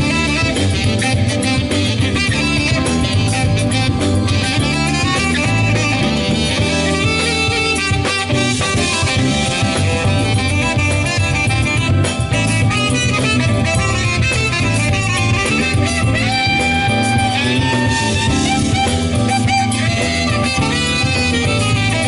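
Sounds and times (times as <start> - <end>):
bass: 0.0 - 22.0
drum kit: 0.0 - 22.0
electric guitar: 0.0 - 22.0
saxophone melody: 0.0 - 22.0.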